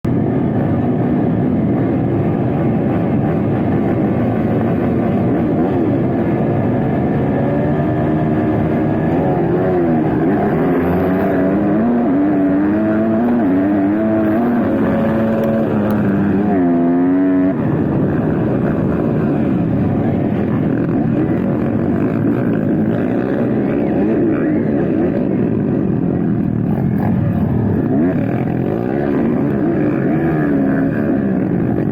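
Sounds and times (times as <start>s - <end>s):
motocross bike engines revving: 0.1s - 31.9s.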